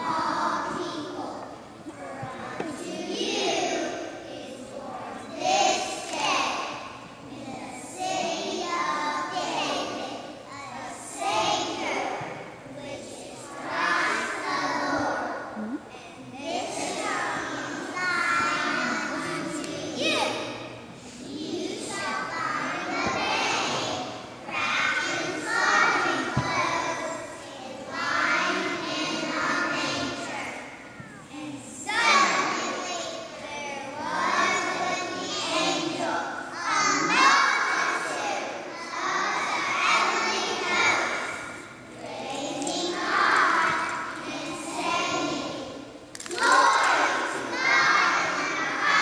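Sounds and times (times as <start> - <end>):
children's choir singing: 0.0 - 15.8, 16.4 - 49.0.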